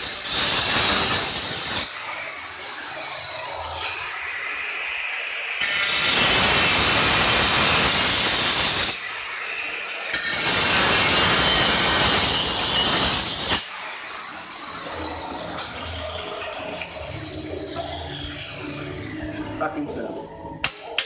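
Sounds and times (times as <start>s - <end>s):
angle grinder cutting tile: 0.0s - 18.6s.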